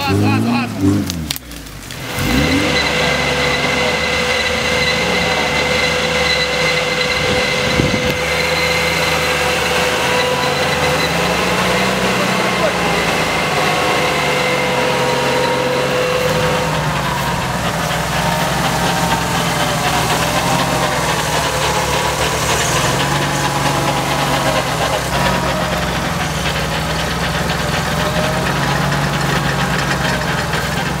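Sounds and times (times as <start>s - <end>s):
car engine running under load: 0.0s - 31.0s.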